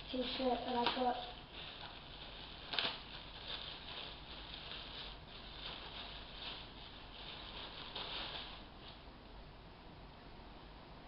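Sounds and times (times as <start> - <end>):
clothing rustling: 0.0 - 9.0.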